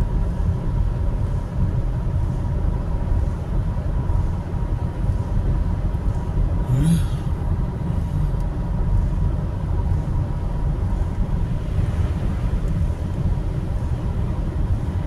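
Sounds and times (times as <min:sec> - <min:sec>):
car engine noise: 0:00.0 - 0:15.0
faint steady whine: 0:00.0 - 0:15.0
road and tyre rumble: 0:00.0 - 0:15.0.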